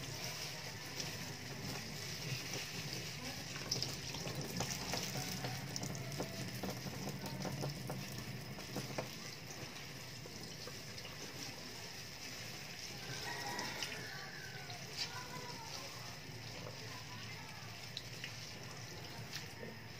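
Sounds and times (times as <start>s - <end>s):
tap water running into a sink: 0.0s - 19.9s.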